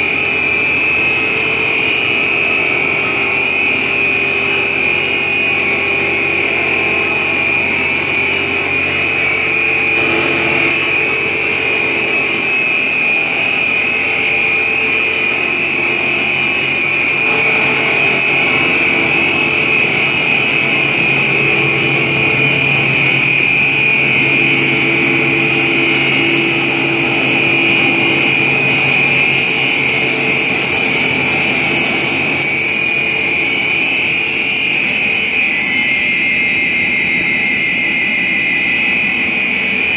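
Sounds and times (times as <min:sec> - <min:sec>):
high whine: 0:00.0 - 0:39.9
machinery hum: 0:00.0 - 0:39.9.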